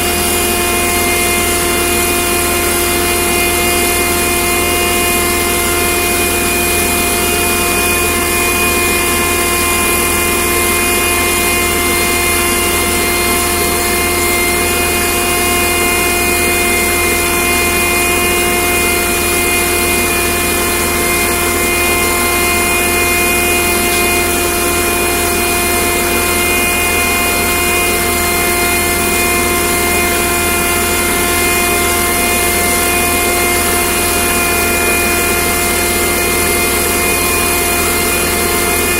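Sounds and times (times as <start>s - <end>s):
mechanical drone with whine: 0.0s - 38.9s.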